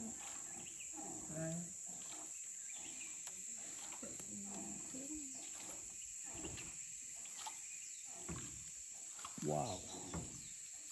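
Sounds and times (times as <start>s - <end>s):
insects singing: 0.0s - 10.9s.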